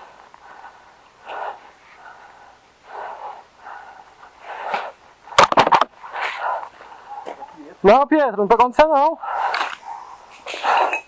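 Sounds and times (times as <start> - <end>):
person breathing heavily: 0.0 - 7.8, 9.2 - 11.0.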